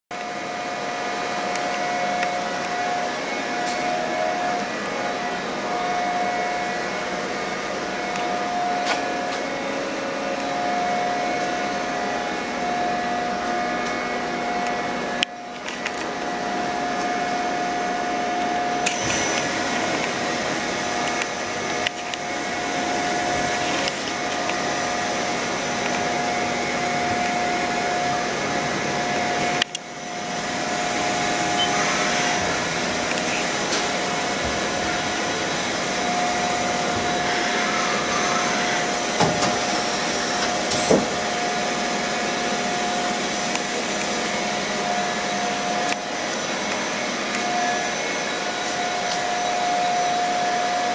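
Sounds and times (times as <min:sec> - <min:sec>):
lathe humming and whining: 0:00.1 - 0:50.9.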